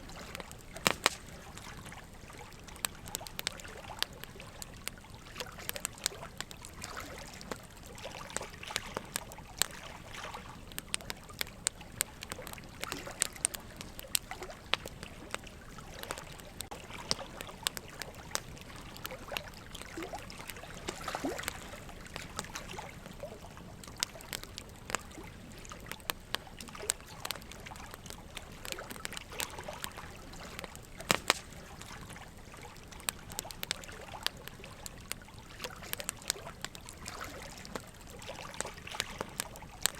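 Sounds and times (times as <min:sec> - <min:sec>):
campfire wood crackling and popping: 0:00.0 - 0:39.9
soft steady hiss: 0:00.0 - 0:39.9.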